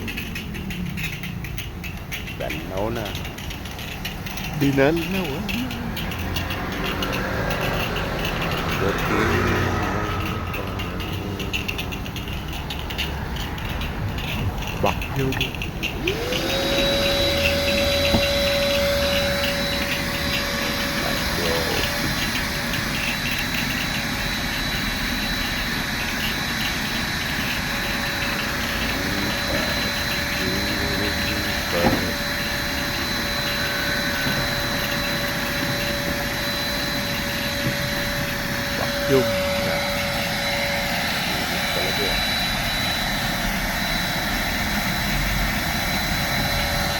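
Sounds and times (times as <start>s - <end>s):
vacuum cleaner motor whine: 2.4s - 12.3s, 14.2s - 46.9s.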